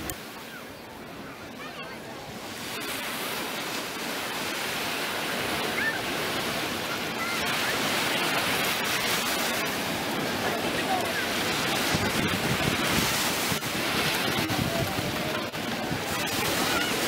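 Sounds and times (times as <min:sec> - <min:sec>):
ocean surf breaking on shore: 0:00.0 - 0:17.0.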